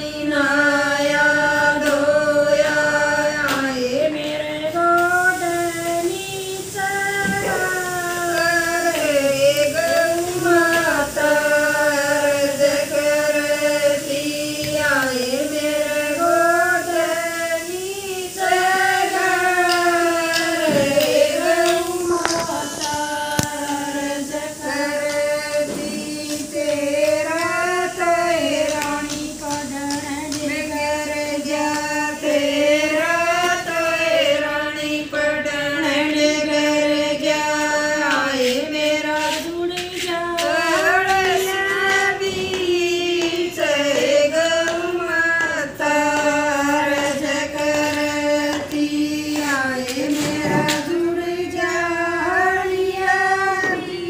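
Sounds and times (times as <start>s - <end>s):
women singing together: 0.0s - 54.0s.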